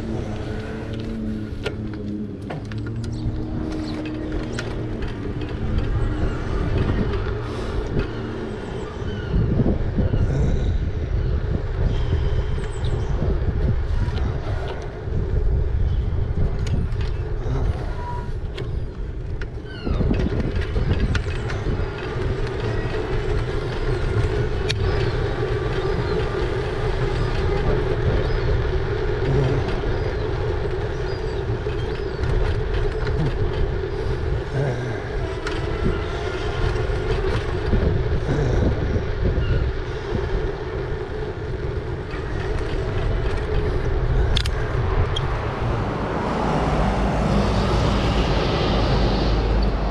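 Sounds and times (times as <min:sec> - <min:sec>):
road noise: 0:00.0 - 0:49.9
wind rumble on microphone: 0:00.0 - 0:49.9.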